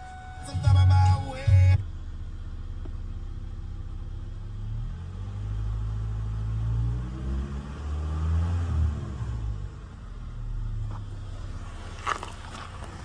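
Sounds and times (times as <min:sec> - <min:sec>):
pickup engine idling and revving: 0:00.0 - 0:13.0.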